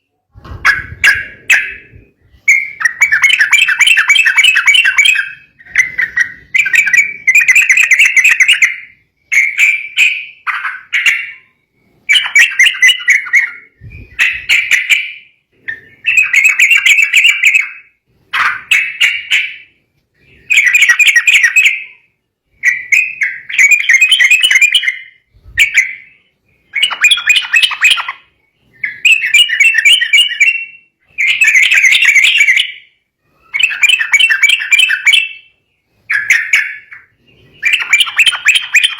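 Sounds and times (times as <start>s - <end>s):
bird bubbly chattering song: 0.6s - 38.9s.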